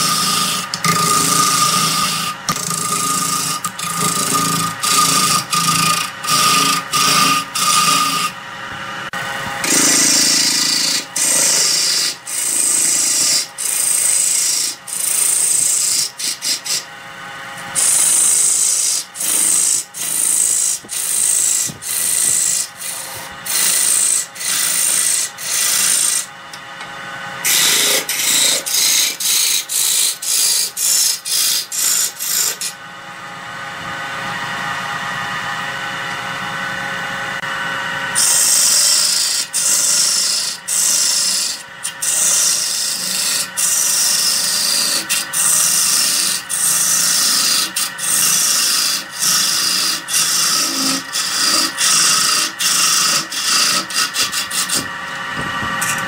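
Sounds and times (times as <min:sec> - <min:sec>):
tool scraping spinning wood: 0:00.0 - 0:32.9, 0:37.4 - 0:56.0
wood lathe humming: 0:00.0 - 0:56.0.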